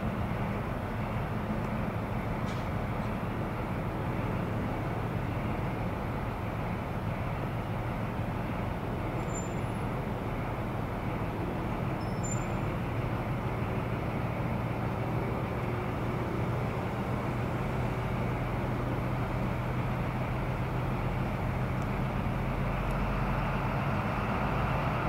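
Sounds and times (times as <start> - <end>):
locomotives droning: 0.0 - 25.0.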